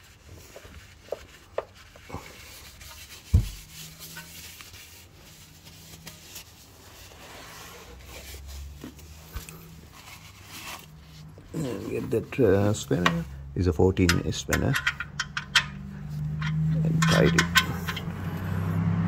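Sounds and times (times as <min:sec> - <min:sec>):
rag rubbing on metal: 0:00.0 - 0:06.6, 0:09.9 - 0:18.6.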